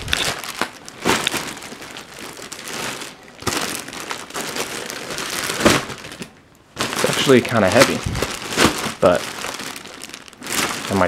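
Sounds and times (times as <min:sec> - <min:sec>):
plastic and cardboard packaging crinkling: 0:00.0 - 0:11.0.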